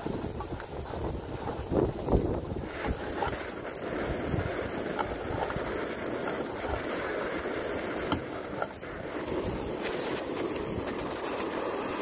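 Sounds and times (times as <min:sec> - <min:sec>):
gas stove burning: 0:00.0 - 0:12.0
wind buffeting microphone: 0:00.0 - 0:12.0.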